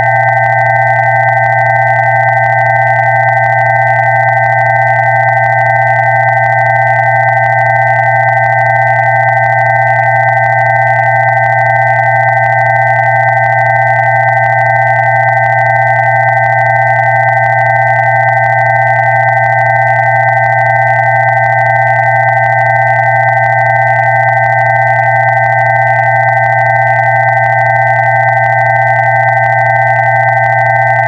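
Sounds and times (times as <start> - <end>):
electronic sine tones: 0.0 - 31.0.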